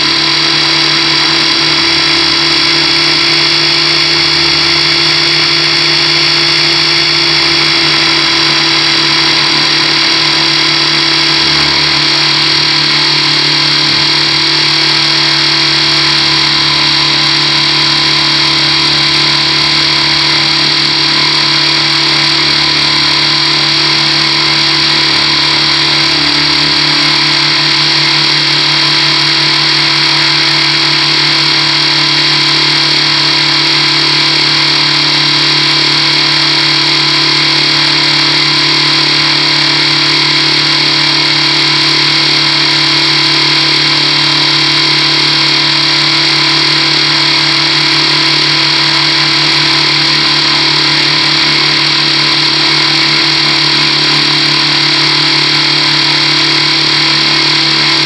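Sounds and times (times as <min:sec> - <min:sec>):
model helicopter whine: 0:00.0 - 0:58.0.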